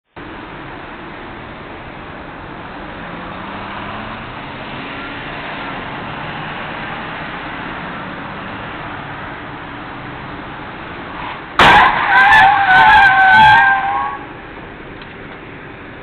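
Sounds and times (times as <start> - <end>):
road traffic passing: 0.1 - 16.0
truck towing a trailer: 0.1 - 16.0.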